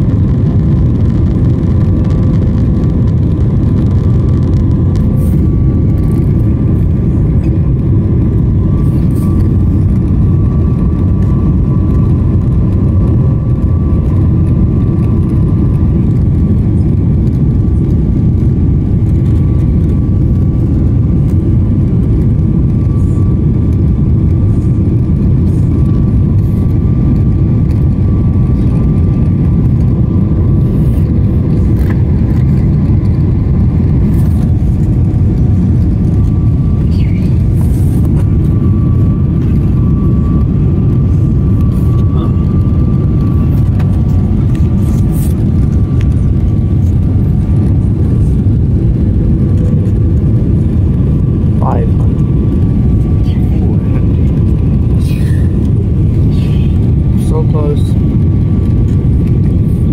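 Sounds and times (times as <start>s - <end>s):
airplane cabin airflow and engine noise: 0.0s - 59.9s
faint steady whines: 0.0s - 59.9s.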